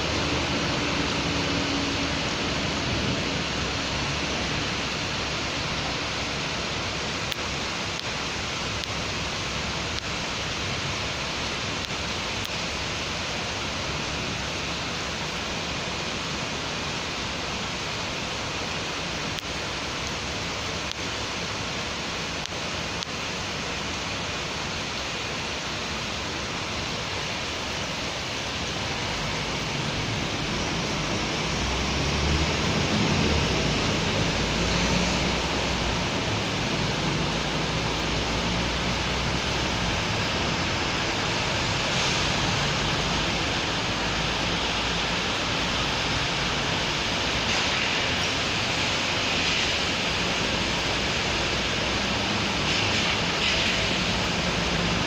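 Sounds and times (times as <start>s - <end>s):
rain hissing on a street: 0.0s - 55.0s
vehicle passing on wet road: 0.0s - 55.0s.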